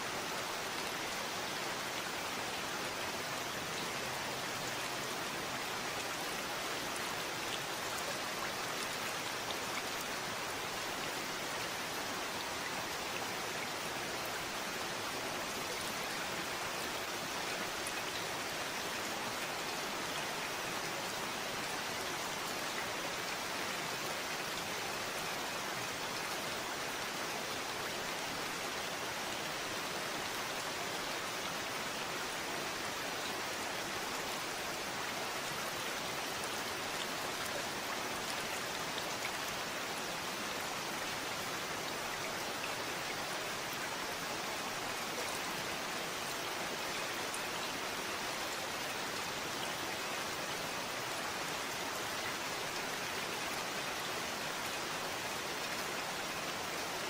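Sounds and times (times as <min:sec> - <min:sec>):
steady rainfall pattering: 0:00.0 - 0:57.0.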